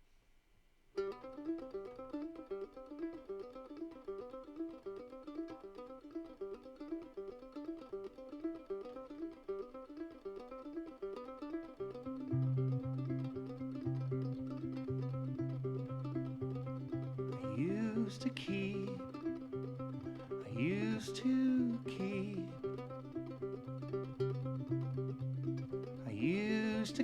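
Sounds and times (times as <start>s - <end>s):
plucked string instrument: 1.0s - 27.0s.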